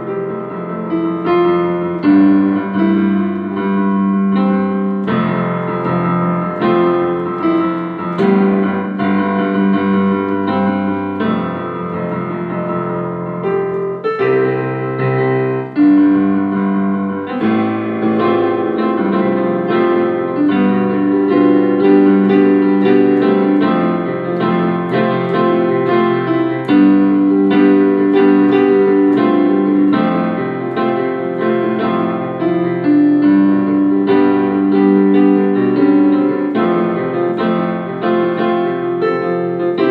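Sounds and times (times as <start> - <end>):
background piano music: 0.0 - 39.9.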